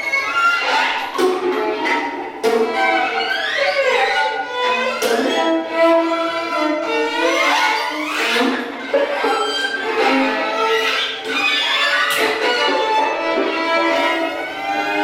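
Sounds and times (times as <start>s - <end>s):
bowed strings holding notes: 0.0s - 15.0s.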